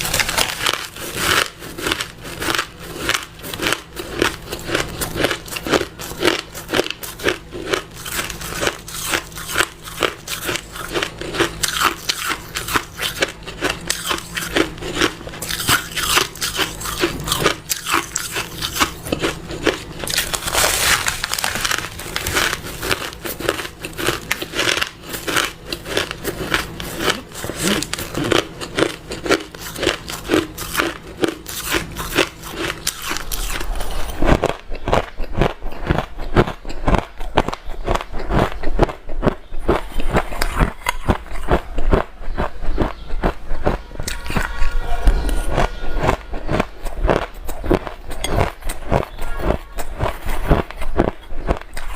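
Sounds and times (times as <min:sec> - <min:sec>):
person crunching ice: 0:00.0 - 0:44.6, 0:45.2 - 0:51.9.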